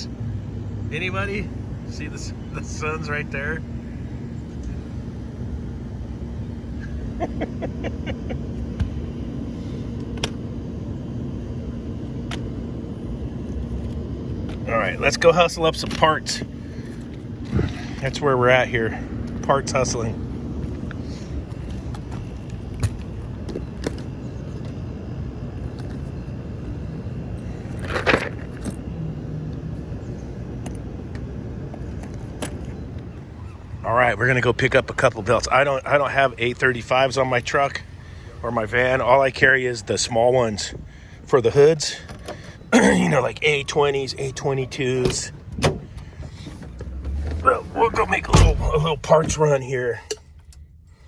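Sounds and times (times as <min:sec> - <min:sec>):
machinery rumbling and humming: 0:00.0 - 0:51.0.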